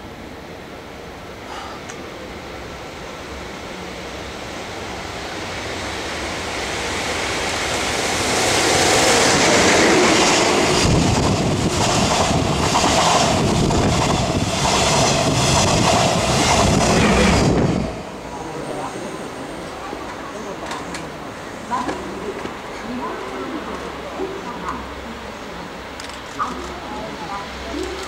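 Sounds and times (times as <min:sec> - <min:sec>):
electric locomotive rumble passing: 0:00.0 - 0:28.0.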